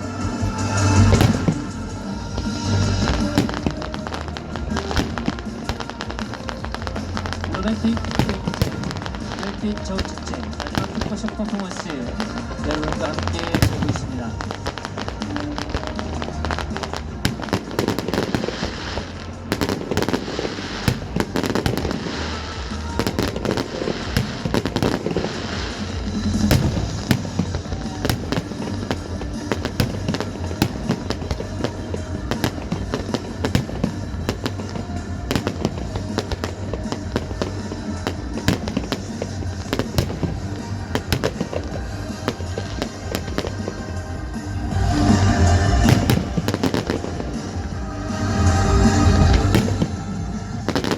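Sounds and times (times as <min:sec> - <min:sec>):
fireworks bangs and crackling: 0:00.0 - 0:50.9
loud music: 0:00.0 - 0:50.9.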